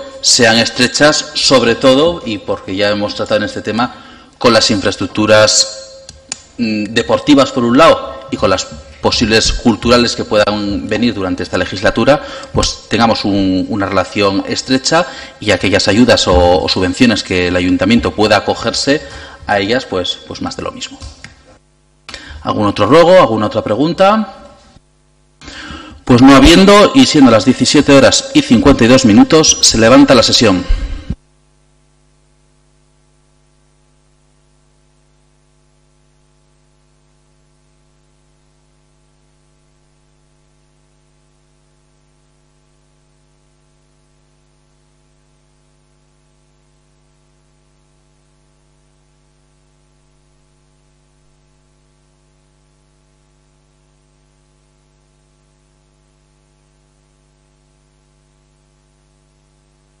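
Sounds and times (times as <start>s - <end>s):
faint electrical mains hum: 0.0s - 60.0s.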